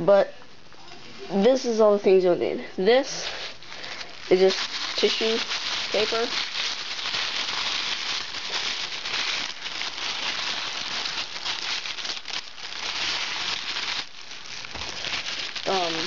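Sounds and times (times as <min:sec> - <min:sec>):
tissue paper crinkling: 0:03.0 - 0:16.0.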